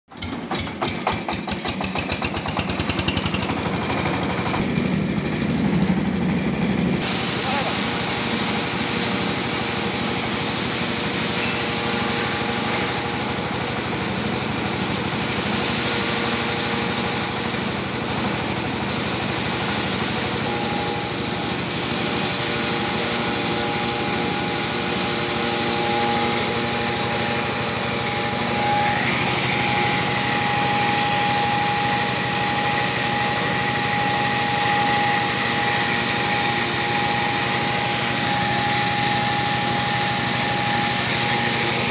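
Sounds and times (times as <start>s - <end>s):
corn cracking machine running: 0.1s - 41.9s
high machine whine: 3.5s - 41.9s.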